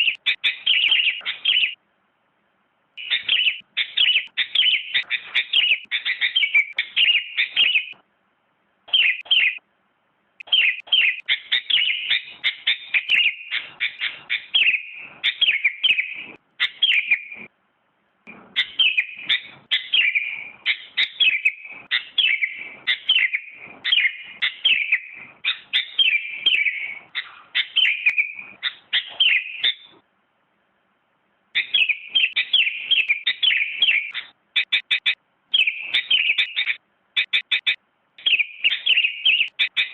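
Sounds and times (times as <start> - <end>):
bird chirping: 0.0 - 1.8, 3.0 - 8.0, 8.8 - 9.7, 10.4 - 17.5, 18.3 - 30.0, 31.5 - 39.9.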